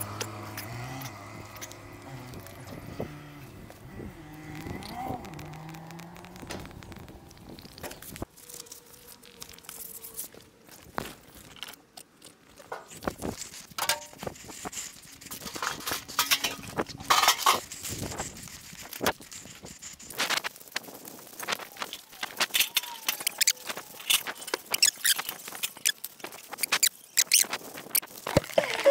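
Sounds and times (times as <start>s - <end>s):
rustling and crackles: 0.0s - 28.9s.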